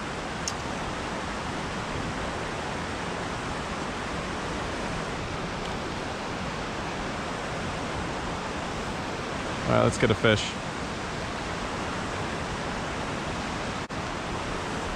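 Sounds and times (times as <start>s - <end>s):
creek water flowing: 0.0s - 14.9s.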